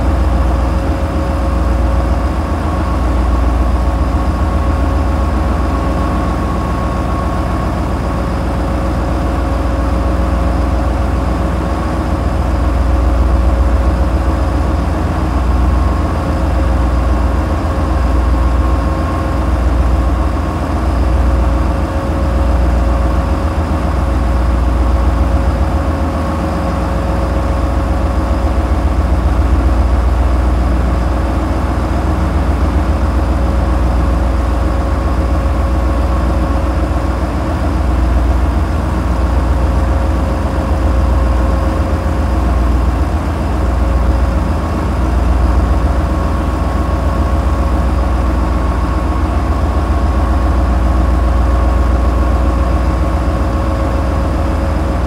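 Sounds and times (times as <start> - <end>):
boat engines throbbing: 0.0 - 55.0
steady hum: 0.0 - 55.0.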